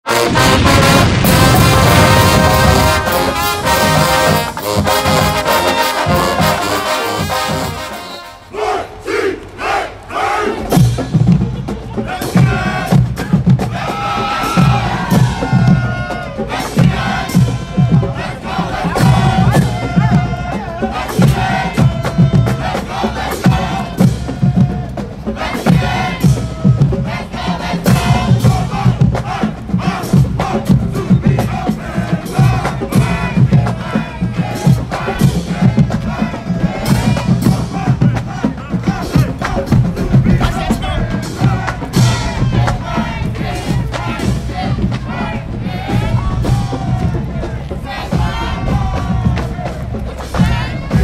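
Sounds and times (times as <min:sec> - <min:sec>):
heavy drum beats: 0:00.0 - 0:08.7, 0:10.2 - 0:51.0
brass band playing held chords: 0:00.0 - 0:51.0
people shouting: 0:00.1 - 0:10.8, 0:11.5 - 0:51.0.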